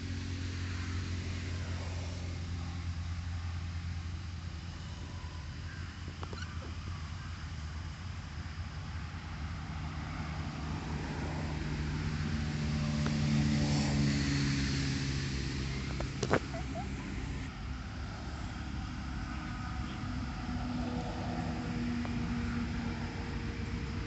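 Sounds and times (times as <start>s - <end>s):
motor-like hum: 0.0s - 24.0s.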